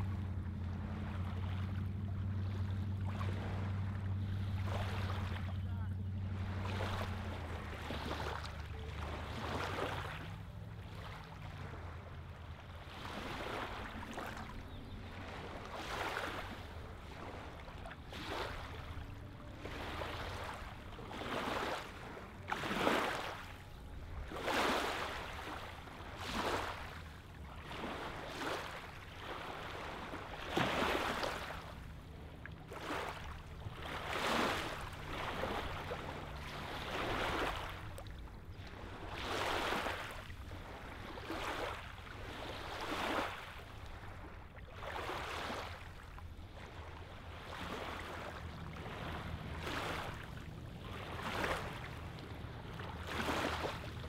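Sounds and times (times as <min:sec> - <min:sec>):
low steady rumble: 0:00.0 - 0:54.0
lake waves lapping on gravel shore: 0:00.9 - 0:54.0.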